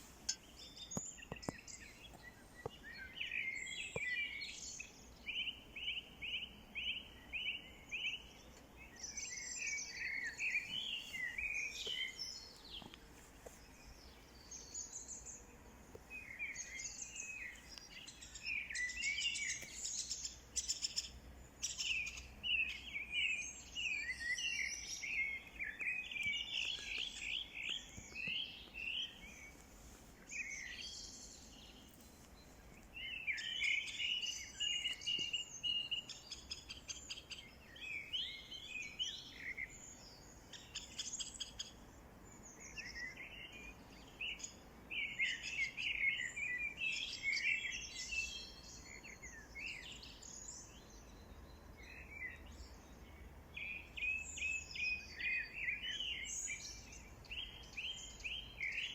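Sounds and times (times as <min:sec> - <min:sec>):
songbirds chirping and singing: 0:00.0 - 0:58.9.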